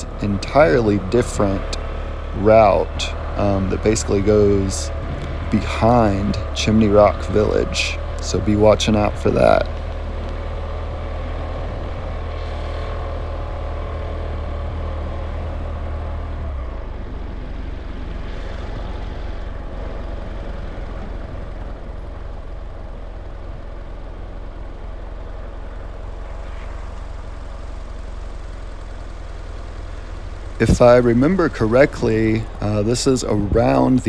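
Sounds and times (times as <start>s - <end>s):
road and wind noise: 0.0s - 34.0s
vehicle engine hum: 0.0s - 34.0s.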